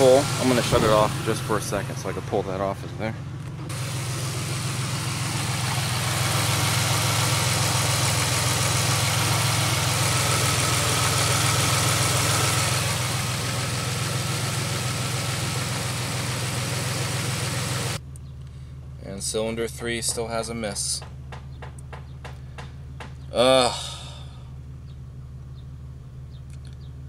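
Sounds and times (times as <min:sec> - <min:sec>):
car engine idling with misfire: 0:00.0 - 0:27.0.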